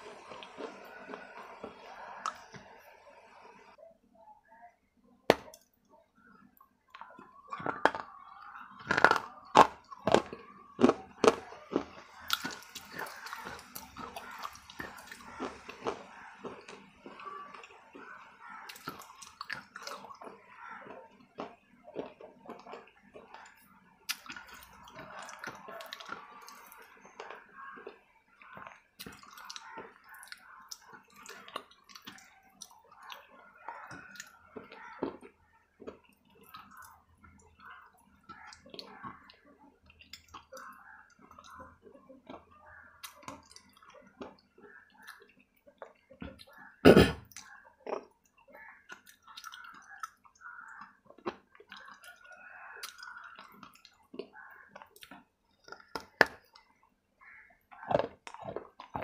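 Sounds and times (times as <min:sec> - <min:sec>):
crunching and chewing clay: 0:00.0 - 0:02.8, 0:05.3 - 0:59.0.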